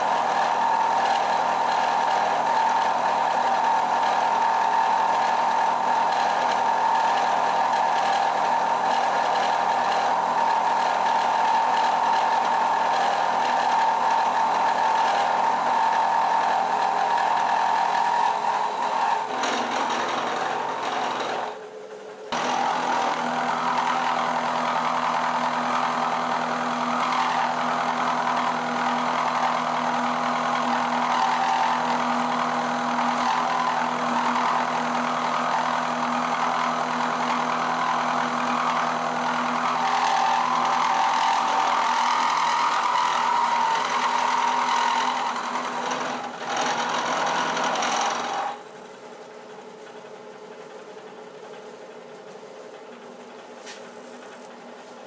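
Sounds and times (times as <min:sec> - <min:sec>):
milling machine cutting metal: 0:00.0 - 0:21.6, 0:22.3 - 0:48.7.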